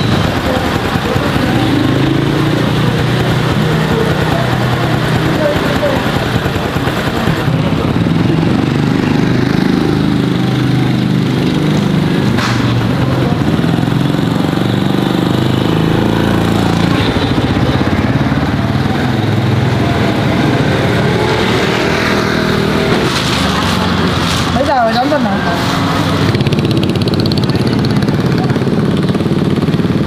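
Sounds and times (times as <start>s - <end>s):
scooter engine running: 0.0s - 30.0s.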